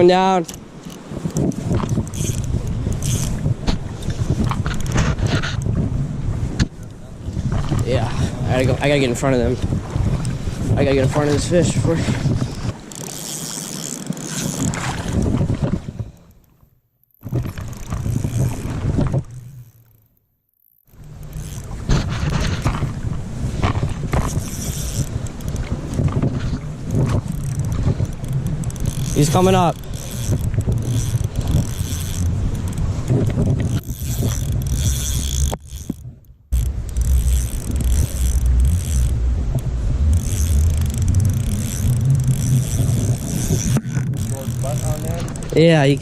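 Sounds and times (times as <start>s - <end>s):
wind buffeting microphone: 0.0s - 16.2s, 17.2s - 19.8s, 21.0s - 46.0s.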